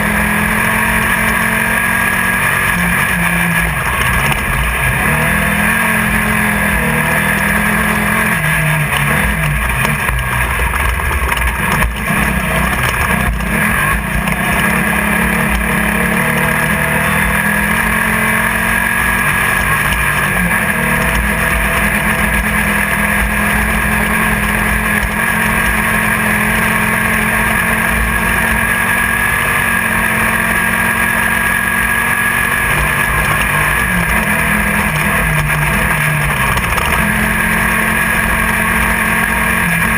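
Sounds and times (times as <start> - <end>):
buggy engine running hard: 0.0 - 39.9.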